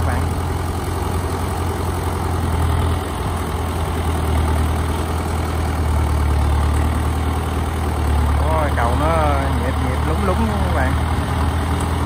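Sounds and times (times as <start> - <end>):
tractor engine humming: 0.0 - 12.0.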